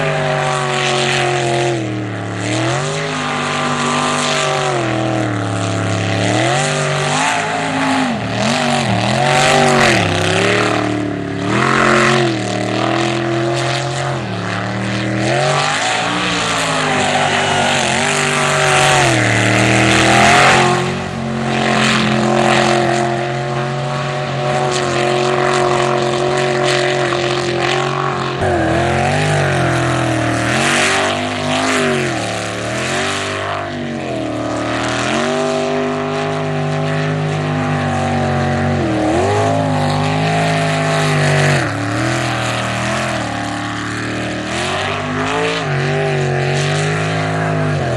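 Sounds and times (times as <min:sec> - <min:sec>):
jet boat engine running hard: 0:00.0 - 0:47.9.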